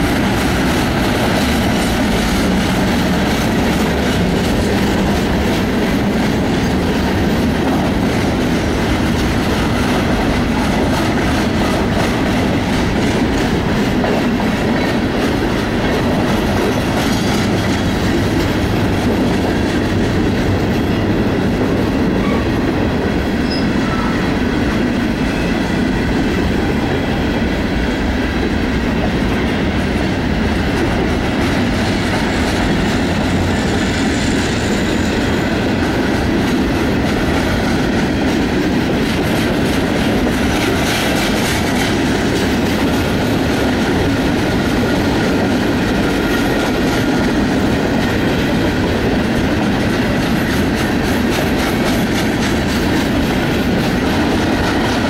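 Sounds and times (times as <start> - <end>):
wheels clacking over rail joints: 0.0 - 27.2, 28.6 - 55.0
train wheels rumbling on rail: 0.0 - 55.0.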